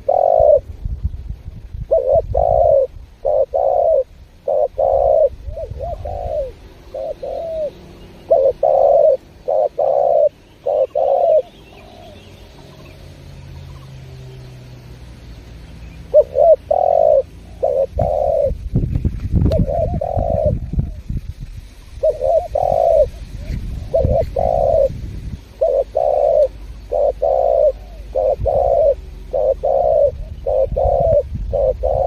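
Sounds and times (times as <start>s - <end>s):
dove cooing: 0.0s - 0.7s, 1.8s - 14.1s, 15.9s - 18.6s, 19.4s - 21.1s, 22.0s - 32.0s.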